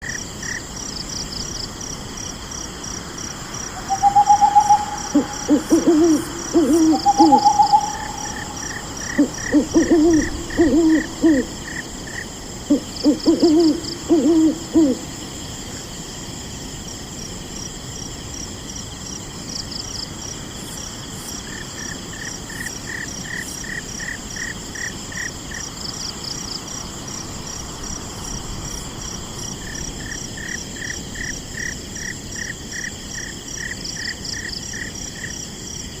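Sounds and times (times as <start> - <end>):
crickets trilling: 0.0 - 36.0
insect chirping: 0.0 - 36.0
low pulsing insect call: 0.0 - 36.0.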